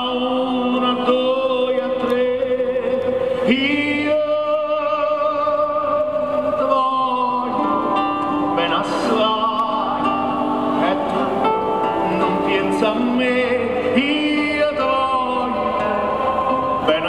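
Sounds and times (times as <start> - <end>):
man singing slow song: 0.0 - 17.0.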